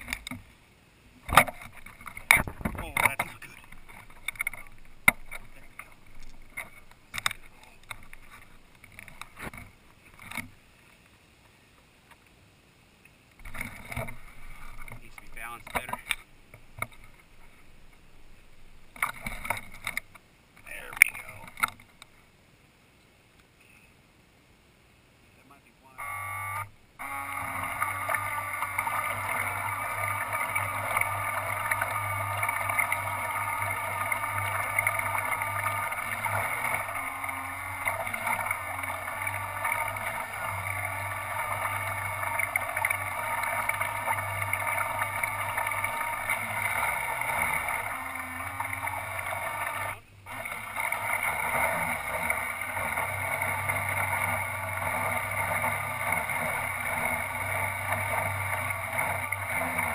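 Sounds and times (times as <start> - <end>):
model boat motor and propellers: 0.0 - 11.2, 13.3 - 22.3, 25.5 - 59.9
water rushing along hull: 1.2 - 10.6, 13.4 - 22.1, 26.1 - 59.9.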